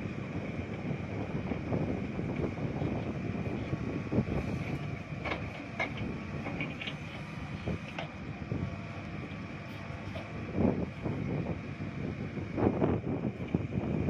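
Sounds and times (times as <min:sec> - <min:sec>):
backhoe diesel engine running: 0:00.0 - 0:14.0.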